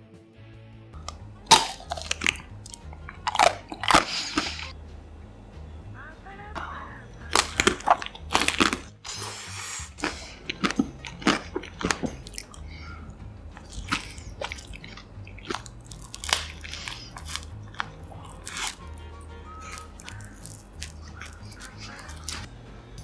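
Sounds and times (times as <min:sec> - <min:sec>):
chewing: 0:01.0 - 0:04.7, 0:07.3 - 0:22.5.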